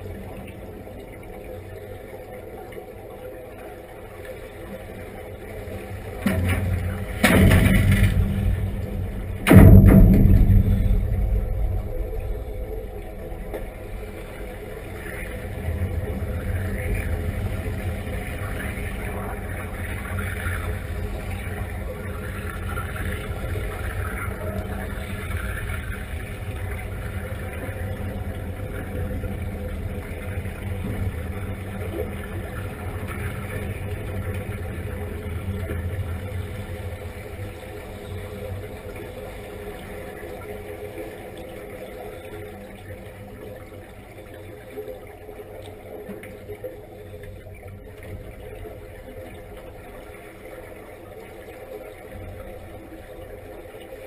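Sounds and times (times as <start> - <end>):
bubbling of exhaled air: 0.0 - 54.0
underwater low rumble: 0.0 - 54.0.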